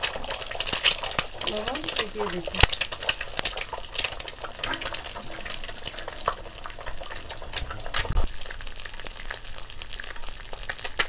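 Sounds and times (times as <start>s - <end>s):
egg sizzling in oil: 0.0s - 11.0s.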